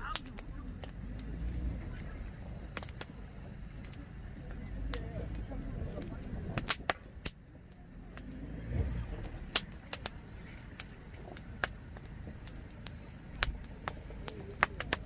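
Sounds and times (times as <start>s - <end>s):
low rumble: 0.0s - 15.0s
wood fire crackling and popping: 0.0s - 15.0s.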